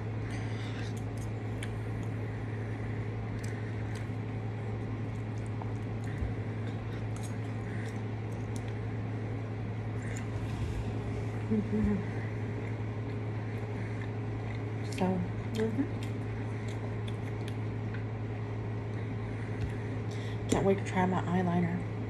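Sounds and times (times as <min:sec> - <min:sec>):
low room hum: 0:00.0 - 0:22.0
person chewing food: 0:00.1 - 0:09.1, 0:09.8 - 0:20.2.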